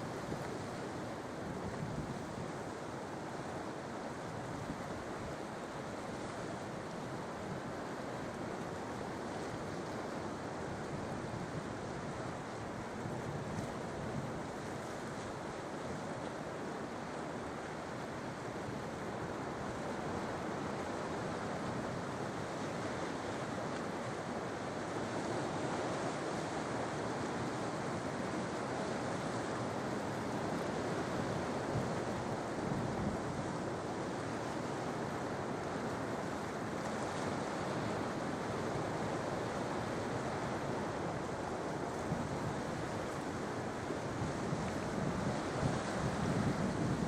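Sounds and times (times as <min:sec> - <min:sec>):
sea waves washing on shore: 0:00.0 - 0:47.0.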